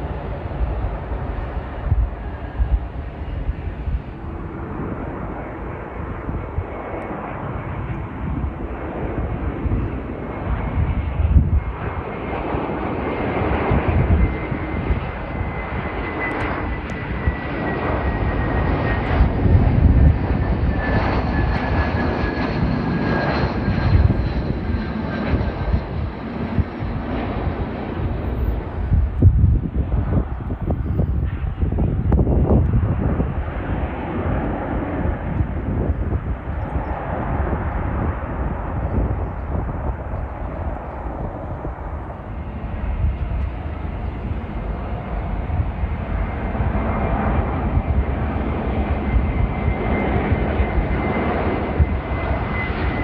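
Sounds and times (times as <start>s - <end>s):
jet engines passing: 0.0s - 53.0s
wind buffeting microphone: 0.0s - 53.0s.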